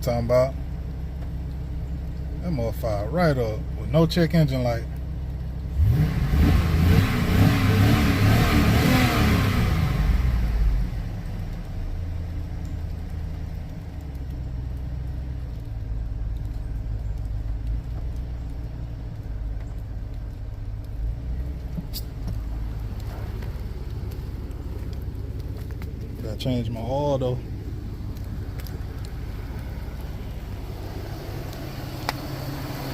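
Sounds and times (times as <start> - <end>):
engine revving and idling: 0.0 - 32.9.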